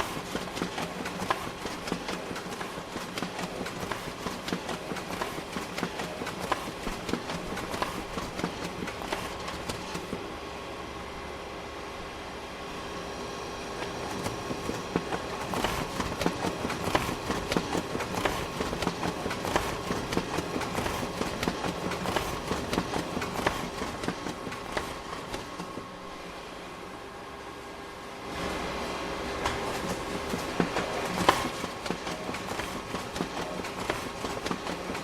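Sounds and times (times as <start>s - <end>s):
office printer printing: 0.0s - 10.3s, 12.7s - 26.5s, 28.3s - 35.0s.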